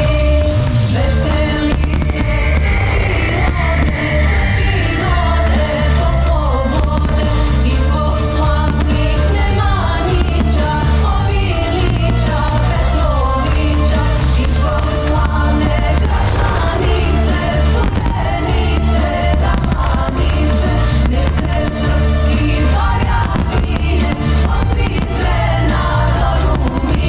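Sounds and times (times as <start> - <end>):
loud music with singing: 0.0 - 27.0
firework bangs: 0.7 - 6.2, 6.8 - 27.0.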